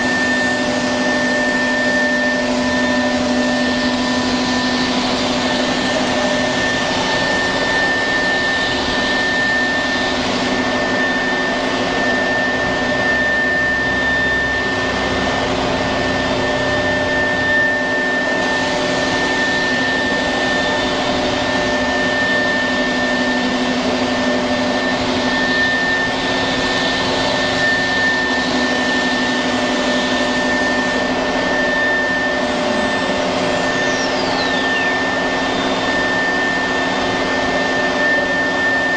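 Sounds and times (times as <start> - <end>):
faint falling whine: 0.0 - 38.9
high spindle whine: 0.0 - 38.9
router machine rushing noise: 0.0 - 38.9.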